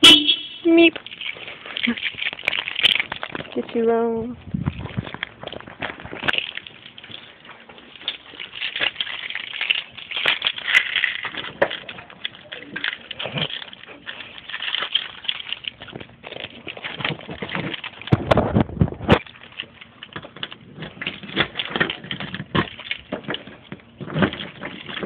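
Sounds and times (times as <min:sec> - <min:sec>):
dog paws clicking and scuffling: 0:00.6 - 0:25.0.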